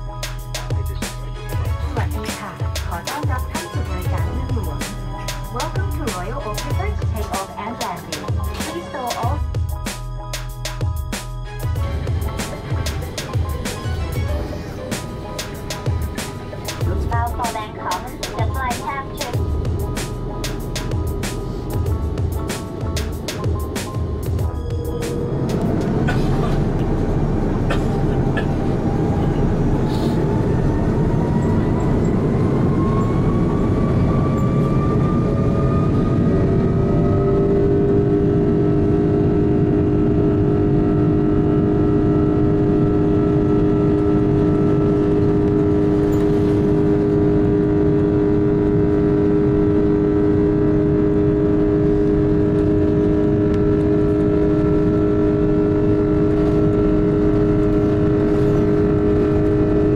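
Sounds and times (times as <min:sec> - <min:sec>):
loud continuous rumble: 0:00.0 - 0:59.9
jet engines spooling up: 0:11.7 - 0:59.9.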